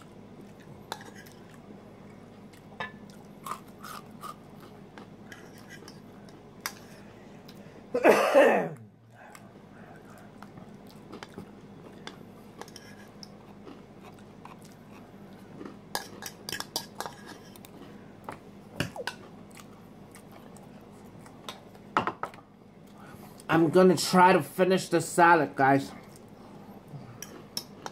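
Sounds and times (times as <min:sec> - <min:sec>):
person chewing salad: 0:00.0 - 0:07.7, 0:08.8 - 0:21.9, 0:26.0 - 0:27.9.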